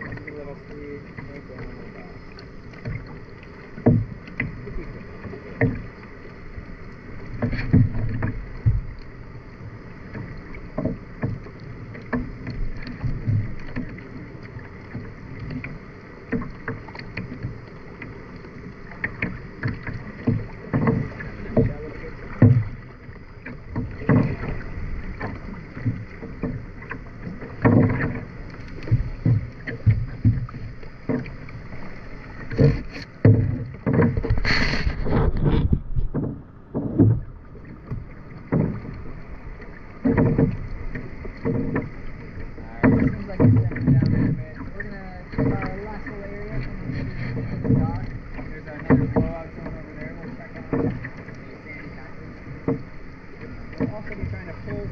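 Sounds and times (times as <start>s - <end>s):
kayak paddle splashing in water: 0.0s - 54.9s.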